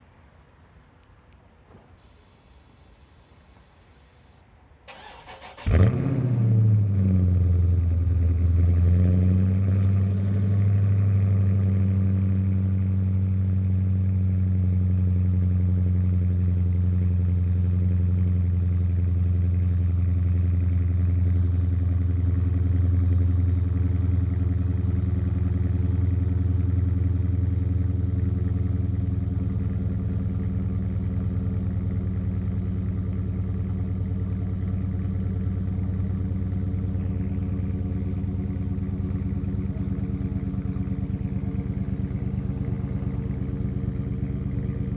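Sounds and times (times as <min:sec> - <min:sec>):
car engine idling: 0:02.0 - 0:44.9.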